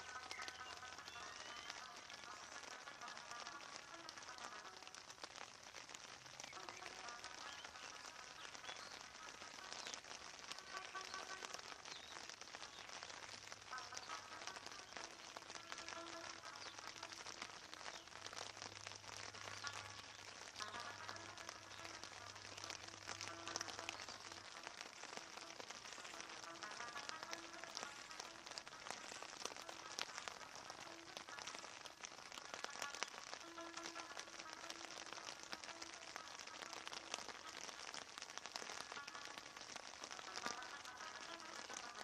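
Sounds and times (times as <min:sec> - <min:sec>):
faint steady tones: 0:00.0 - 0:42.0
rain pattering: 0:00.0 - 0:42.0.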